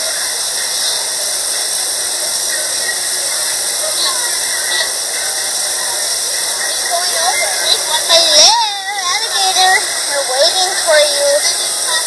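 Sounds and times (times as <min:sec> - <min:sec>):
faint voices: 0:00.0 - 0:12.0
steady hiss: 0:00.0 - 0:12.0.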